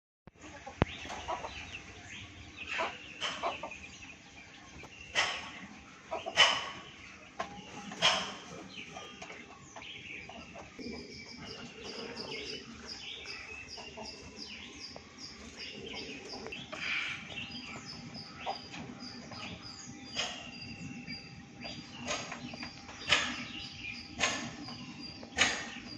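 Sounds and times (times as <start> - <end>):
chickens clucking and calling: 0.3 - 25.9.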